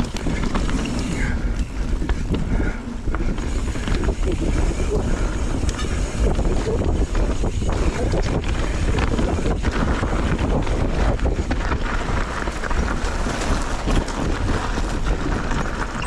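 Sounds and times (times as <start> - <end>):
mountain bike rumbling and rattling: 0.0 - 16.0
wind on microphone: 0.0 - 16.0.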